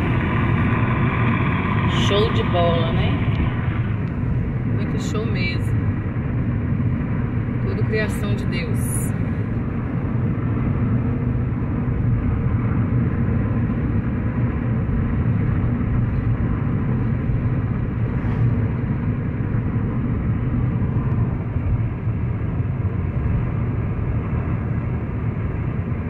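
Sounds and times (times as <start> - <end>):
car interior road rumble: 0.0 - 26.0.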